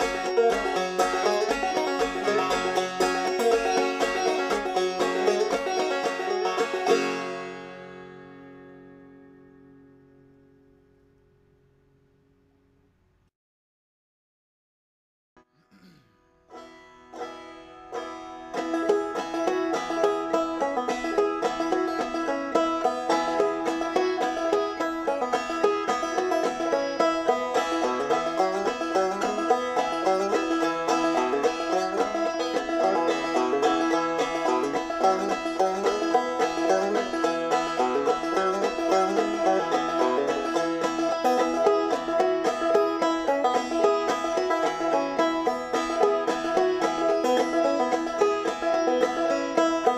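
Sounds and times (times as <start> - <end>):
fast plucked-string music: 0.0 - 12.0, 16.5 - 49.9.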